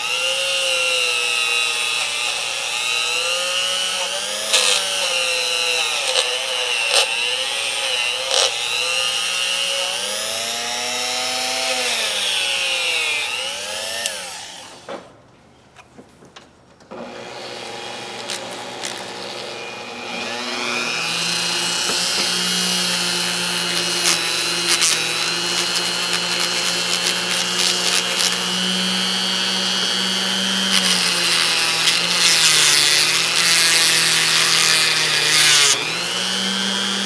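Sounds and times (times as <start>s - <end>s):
small power tool motor spinning: 0.0s - 14.9s, 17.1s - 37.0s.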